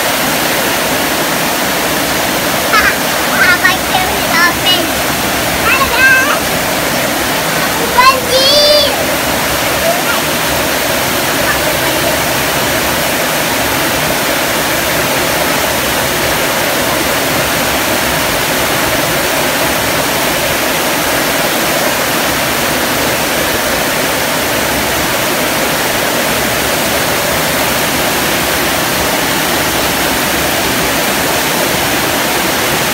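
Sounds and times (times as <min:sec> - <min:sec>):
heavy rain on metal roof: 0:00.0 - 0:32.9.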